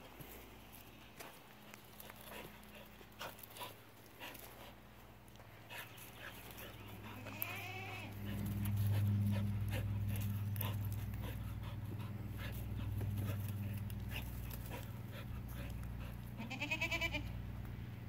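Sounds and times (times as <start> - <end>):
steady low hum: 0.0 - 18.0
dog panting: 1.1 - 16.4.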